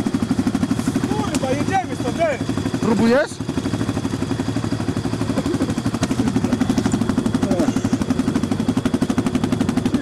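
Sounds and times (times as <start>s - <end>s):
quad bike engine puttering: 0.0s - 10.0s.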